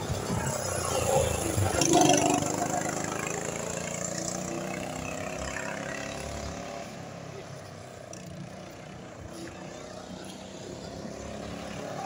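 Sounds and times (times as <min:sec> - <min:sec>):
go-kart engine passing by: 0:00.0 - 0:12.0.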